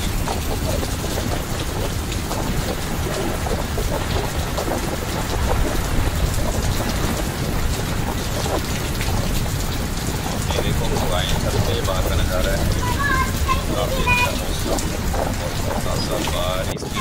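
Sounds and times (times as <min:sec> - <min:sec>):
rain falling on pavement: 0:00.0 - 0:17.0.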